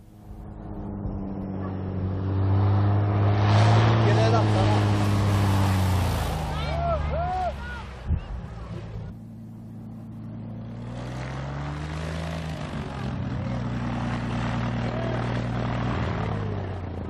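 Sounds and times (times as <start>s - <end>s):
propeller plane engine running: 0.0s - 6.7s, 8.0s - 17.0s.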